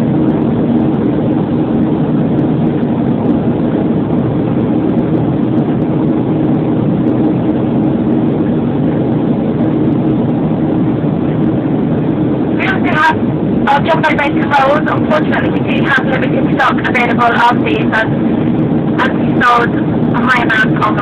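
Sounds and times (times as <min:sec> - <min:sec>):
constant low hum: 0:00.0 - 0:21.0
jet engines roaring: 0:00.0 - 0:21.0
rushing air: 0:00.0 - 0:21.0.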